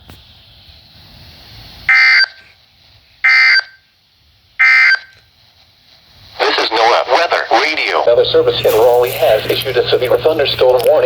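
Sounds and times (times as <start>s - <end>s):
faint radio hiss: 0.0s - 11.0s.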